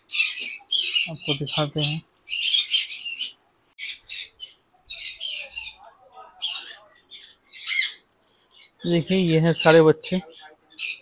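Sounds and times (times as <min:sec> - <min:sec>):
chicks squawking: 0:00.0 - 0:11.0.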